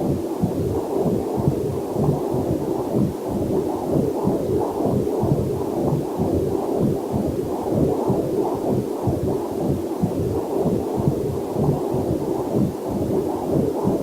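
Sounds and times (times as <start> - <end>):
doppler heartbeat whooshing: 0.0 - 14.0.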